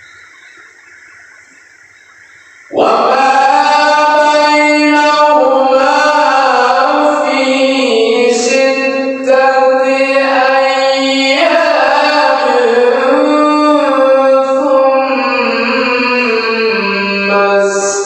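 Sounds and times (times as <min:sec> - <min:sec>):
man reciting melodically: 0:02.7 - 0:18.0.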